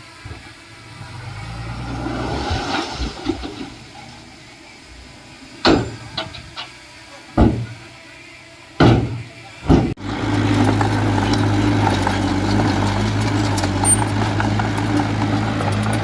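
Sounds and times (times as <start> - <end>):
diesel engine of earthmoving machine: 0.0 - 16.0.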